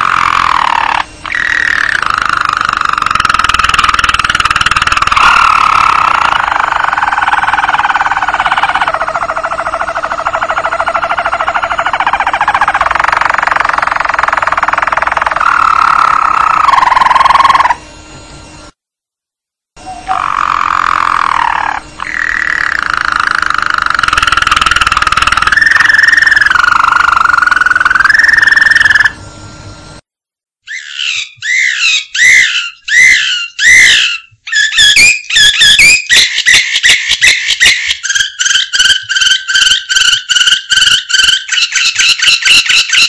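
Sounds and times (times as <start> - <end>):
canary singing: 0.0 - 17.8, 19.9 - 29.2, 30.6 - 43.0.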